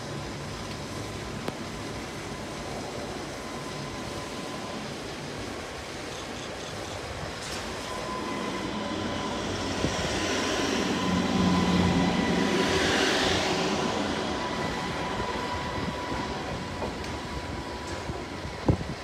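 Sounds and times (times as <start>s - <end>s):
steady high whine: 0.0s - 5.8s, 7.4s - 19.0s
train engine hum: 0.0s - 19.0s
train hiss: 0.0s - 19.0s
train wheel noise: 0.0s - 19.0s.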